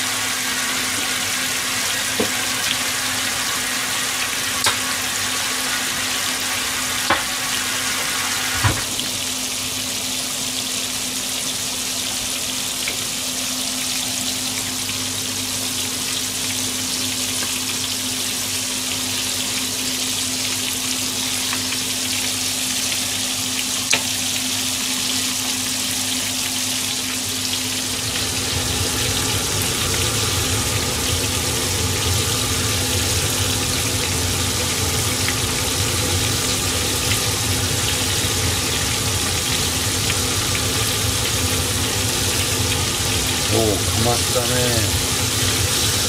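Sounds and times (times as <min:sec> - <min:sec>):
fish deep-frying in oil: 0:00.0 - 0:46.0.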